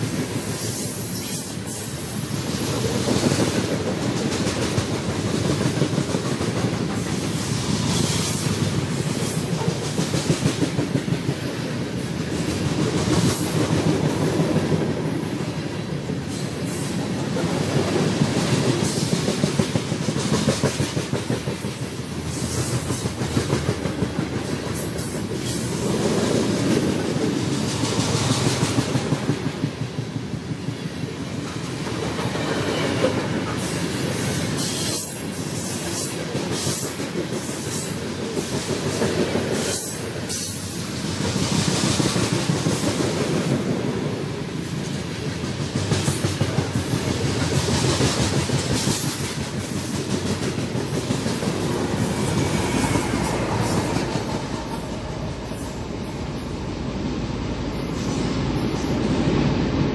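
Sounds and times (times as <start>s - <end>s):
freight train wheels clattering: 0.0s - 56.7s.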